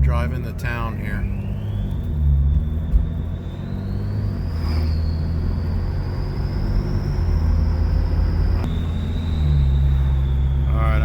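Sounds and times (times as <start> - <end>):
low engine rumble: 0.0 - 11.0
turbo whistle rising: 0.6 - 11.0.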